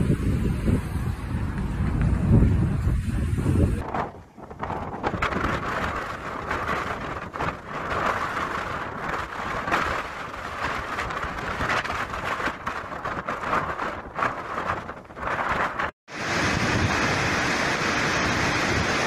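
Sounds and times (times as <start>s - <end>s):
wind gusting on microphone: 0.0s - 19.0s
surf breaking over rocks: 3.7s - 19.0s.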